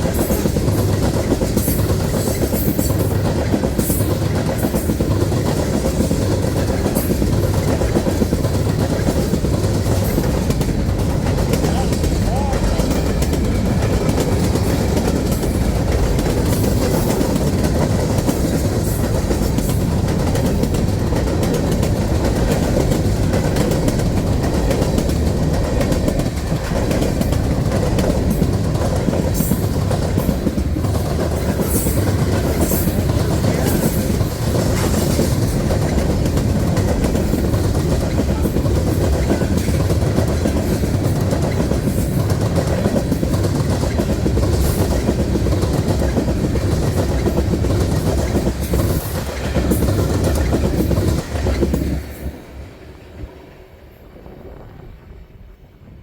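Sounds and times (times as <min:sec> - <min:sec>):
freight train wheels clacking: 0:00.0 - 0:53.6.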